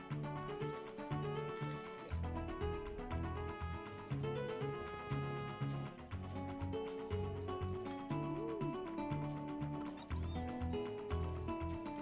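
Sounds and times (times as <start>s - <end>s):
slot game music: 0.0s - 12.0s.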